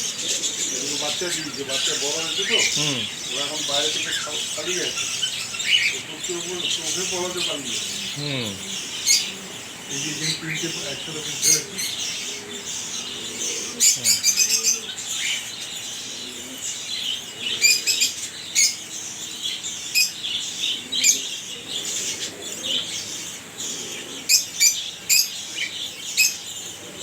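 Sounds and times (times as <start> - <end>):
finches chirping: 0.0 - 26.6.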